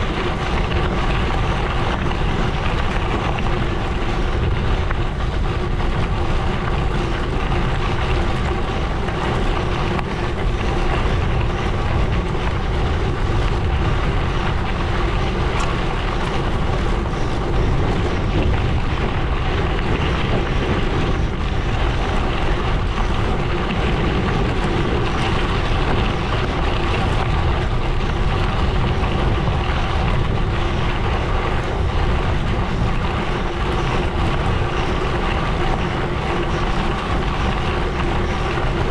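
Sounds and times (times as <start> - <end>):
bike tyres rolling on gravel: 0.0 - 38.9
wind on microphone: 0.0 - 38.9.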